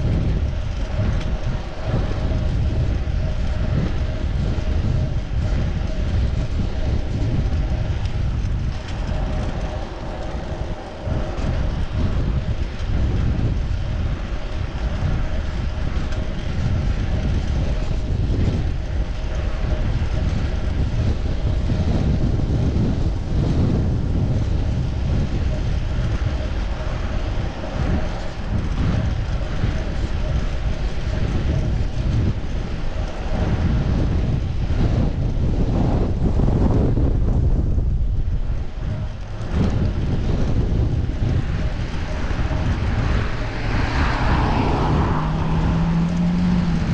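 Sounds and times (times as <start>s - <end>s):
road and tyre noise: 0.0s - 46.9s
wind rushing over microphone: 0.0s - 46.9s.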